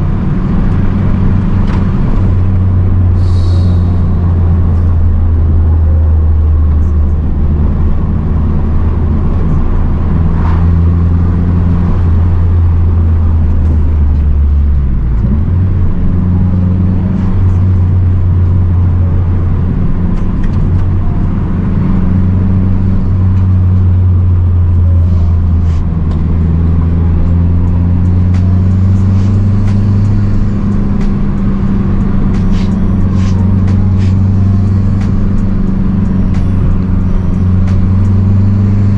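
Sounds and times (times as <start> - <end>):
car engine driving at steady revs: 0.0 - 38.9.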